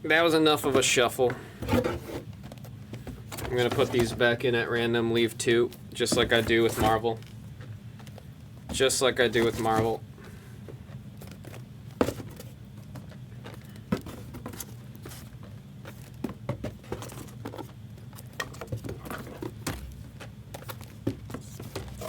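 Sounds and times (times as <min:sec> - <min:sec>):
cardboard boxes clicking and rustling: 0:00.6 - 0:07.3, 0:08.0 - 0:10.0, 0:10.7 - 0:22.0.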